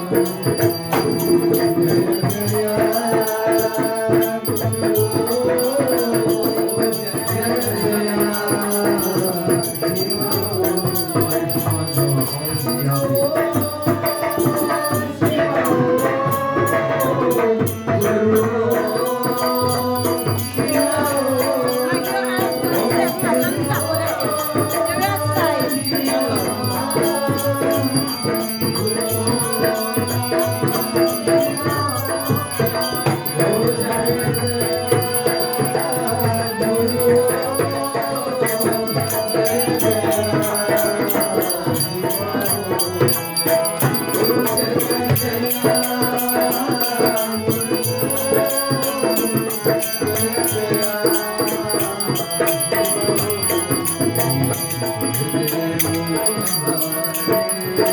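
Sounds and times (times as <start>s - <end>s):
person singing a devotional hymn: 0.0s - 57.9s.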